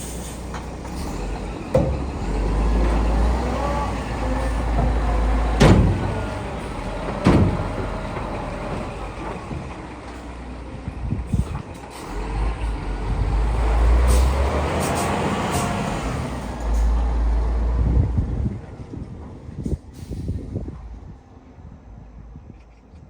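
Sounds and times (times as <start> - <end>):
truck diesel engine running: 0.0 - 22.4.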